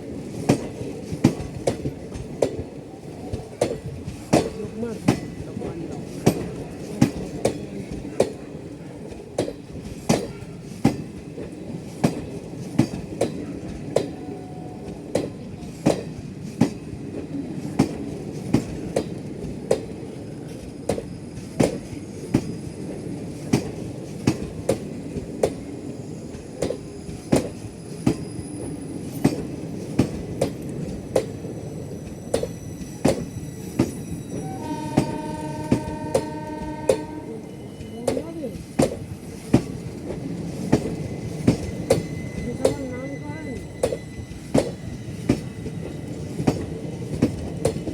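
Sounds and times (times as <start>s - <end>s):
train wheels clicking over rail joints: 0.0s - 37.2s, 37.8s - 47.9s
rumble of train coaches: 0.0s - 47.9s.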